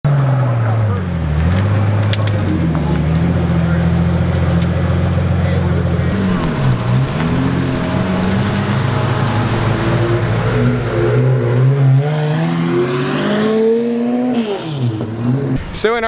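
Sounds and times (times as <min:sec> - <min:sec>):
car engine accelerating: 0:00.1 - 0:15.6.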